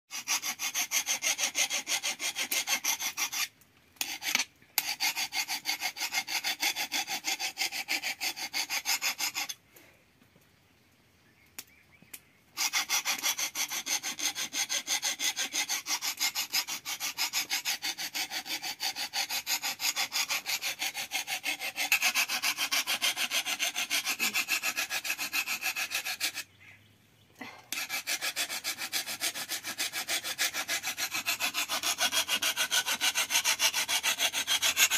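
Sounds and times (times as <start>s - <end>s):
blade being sharpened by hand: 0.1s - 9.6s, 12.6s - 26.5s, 27.7s - 34.9s.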